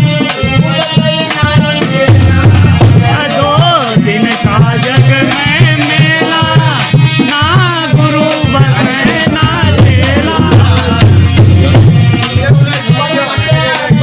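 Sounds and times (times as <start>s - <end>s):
low drum beat: 1.4s - 14.0s.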